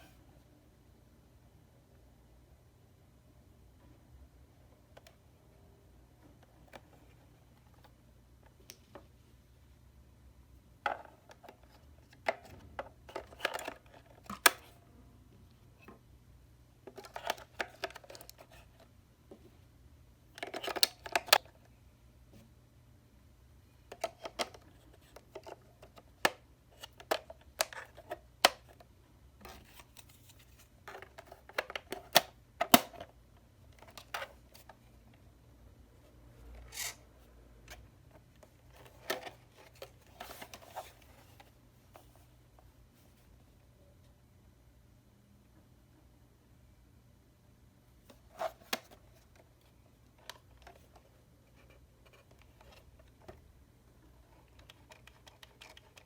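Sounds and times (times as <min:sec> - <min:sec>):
faint low hum: 0:00.0 - 0:56.0.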